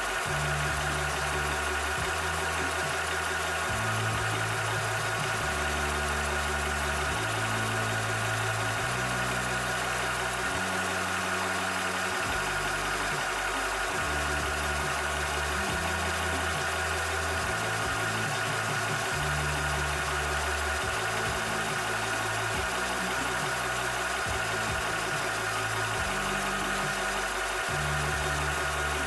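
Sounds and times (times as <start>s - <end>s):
air compressor running: 0.0s - 29.0s.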